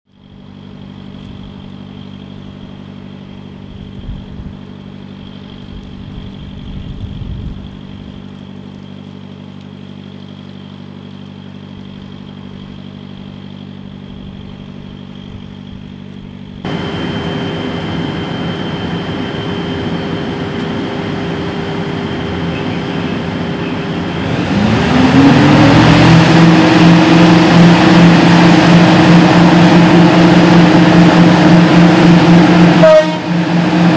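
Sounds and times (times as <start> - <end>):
excavator diesel engines running: 0.1 - 33.9.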